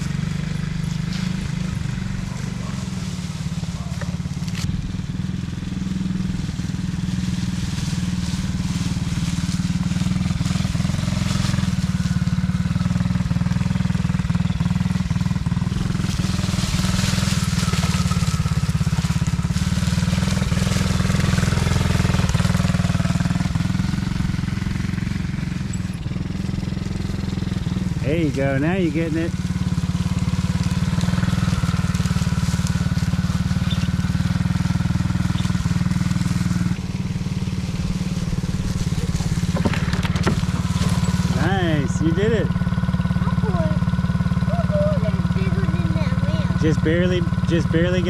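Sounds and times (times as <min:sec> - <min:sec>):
small four-wheeler engine running: 0:00.0 - 0:48.0.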